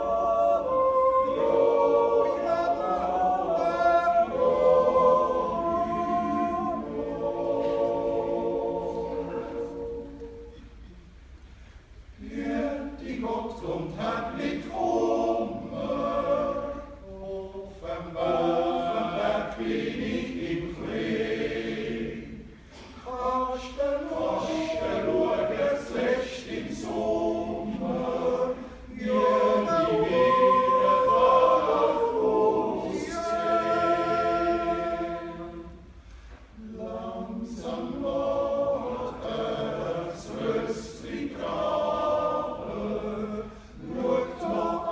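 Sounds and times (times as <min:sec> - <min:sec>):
men's choir yodeling a cappella: 0:00.0 - 0:10.6, 0:12.2 - 0:35.9, 0:36.6 - 0:44.9.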